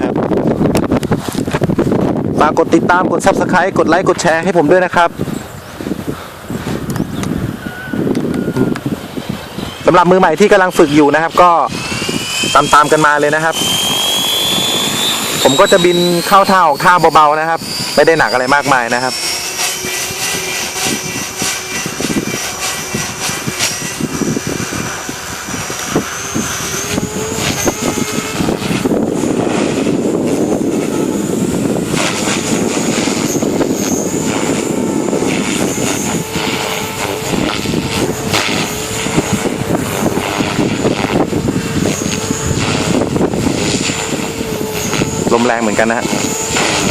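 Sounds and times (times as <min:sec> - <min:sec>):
rc helicopter motor whine: 0:00.0 - 0:46.9
wind buffeting microphone: 0:00.0 - 0:46.9.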